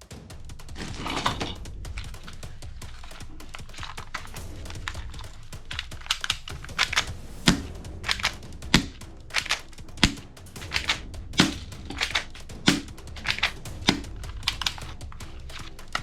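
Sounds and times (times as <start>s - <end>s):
sharp clicks and snaps: 0.6s - 16.0s.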